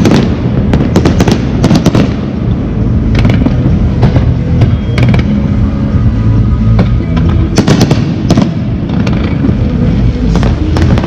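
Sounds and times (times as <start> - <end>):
fireworks booming: 0.0 - 11.0
fireworks bursts and crackles: 0.0 - 11.0.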